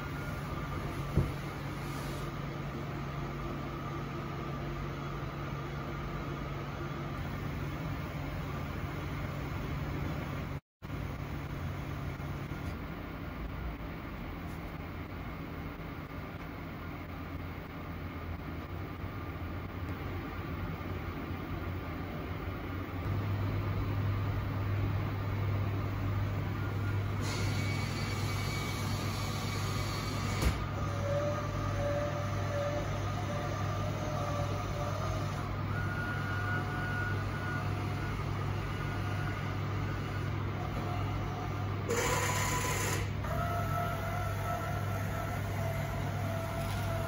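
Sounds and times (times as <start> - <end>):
faint whirring tones: 0.0 - 47.0
vending machine low hum: 0.0 - 47.0.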